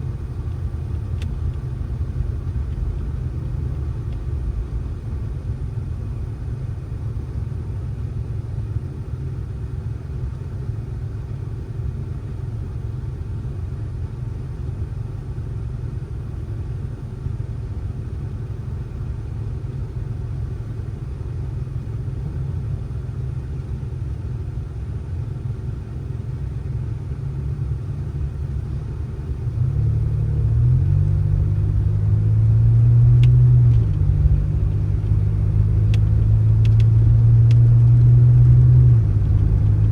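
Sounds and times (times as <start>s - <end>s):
vehicle motor rumbling: 0.0s - 39.9s.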